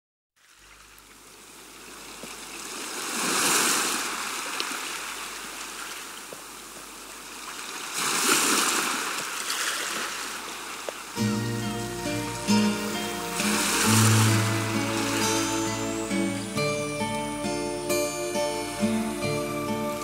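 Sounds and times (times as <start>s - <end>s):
stream running water: 0.4s - 20.0s.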